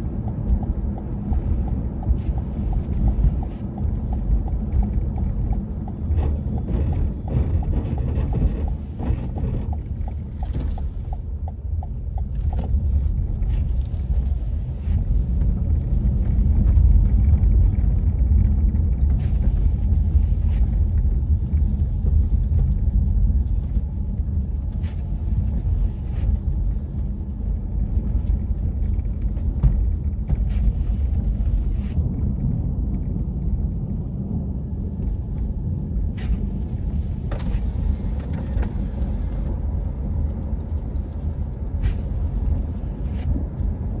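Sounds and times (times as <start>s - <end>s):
passing traffic: 0.0s - 44.0s.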